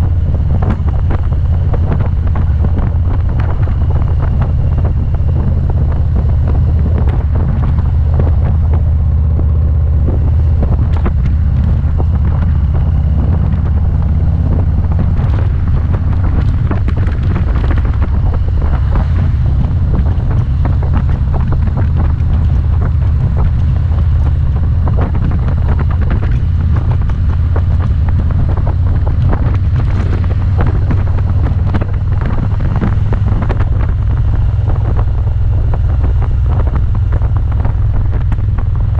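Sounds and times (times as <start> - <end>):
motorcycle engine rumble: 0.0 - 38.9
wind buffeting microphone: 0.0 - 38.9.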